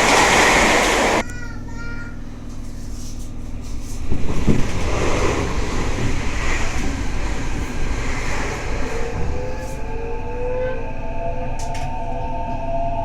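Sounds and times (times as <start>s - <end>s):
train wheels rumbling on rail: 0.0s - 1.2s, 3.0s - 13.0s.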